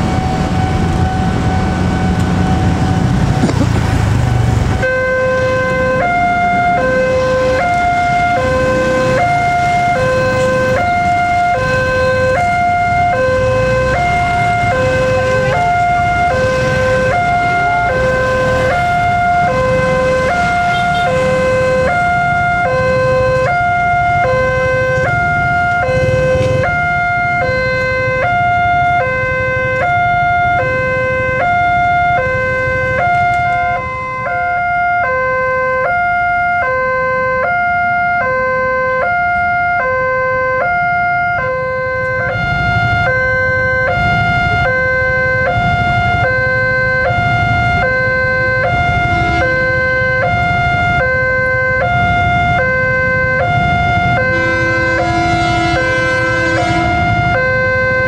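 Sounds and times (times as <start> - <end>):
road traffic rumbling: 0.0 - 58.0
two-tone crossing alarm: 0.0 - 58.0.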